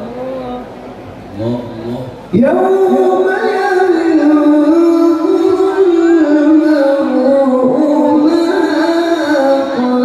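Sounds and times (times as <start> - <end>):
man chanting recitation over loudspeakers: 1.3 - 10.0.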